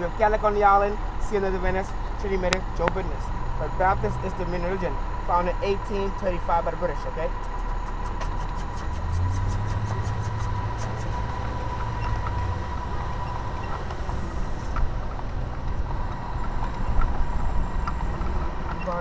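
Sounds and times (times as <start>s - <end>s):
engine hum: 0.0s - 19.0s
low road rumble: 0.0s - 19.0s.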